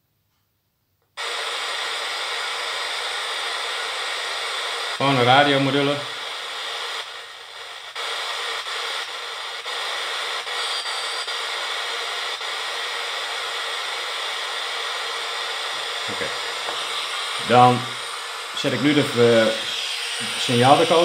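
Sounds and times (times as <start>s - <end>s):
radio static hiss: 1.2s - 21.0s.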